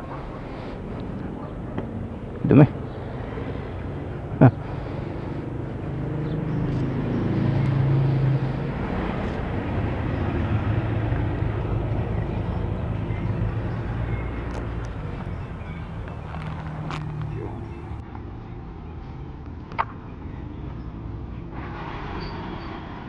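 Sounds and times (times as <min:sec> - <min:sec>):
motor vehicle engine running: 0:00.0 - 0:23.0.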